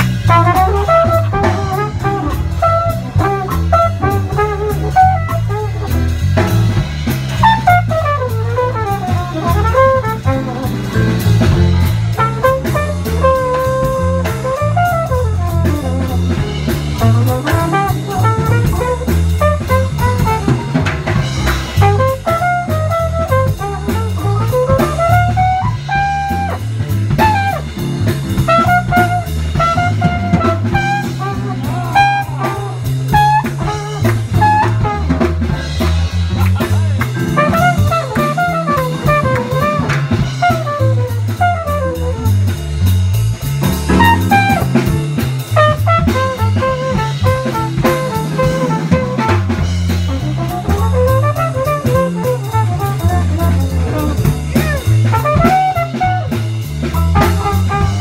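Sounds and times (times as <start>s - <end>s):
drum kit: 0.0s - 58.0s
low bass line: 0.0s - 58.0s
flugelhorn solo: 0.2s - 6.0s, 7.4s - 11.0s, 12.1s - 16.3s, 17.0s - 20.8s, 21.7s - 27.7s, 28.4s - 35.3s, 37.3s - 42.5s, 43.9s - 44.8s, 45.6s - 58.0s.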